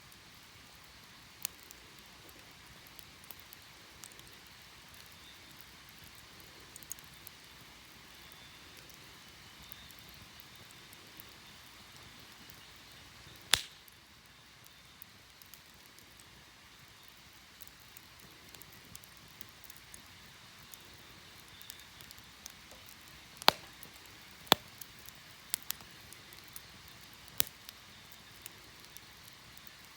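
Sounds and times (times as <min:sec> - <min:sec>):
campfire crackling and popping: 0:00.0 - 0:29.9.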